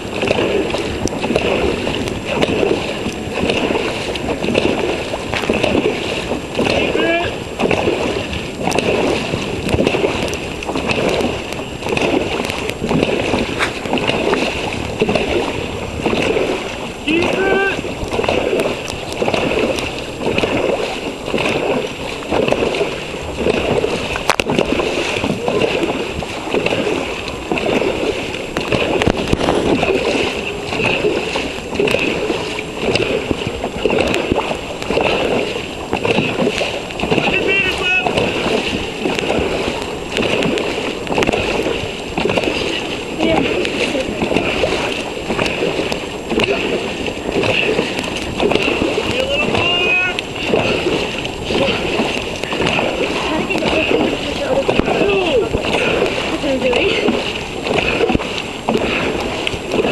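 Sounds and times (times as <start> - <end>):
paddles splashing through water: 0.0 - 59.9.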